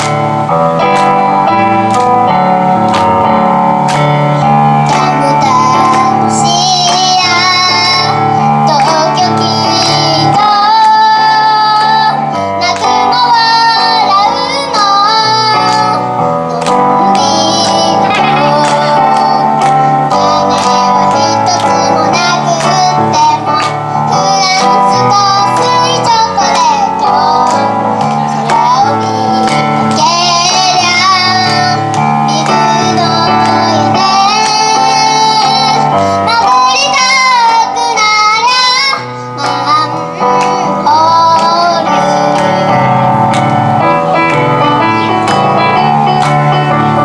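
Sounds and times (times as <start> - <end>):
girl singing a pop song: 0.0 - 47.0
instrumental backing music: 0.0 - 47.0.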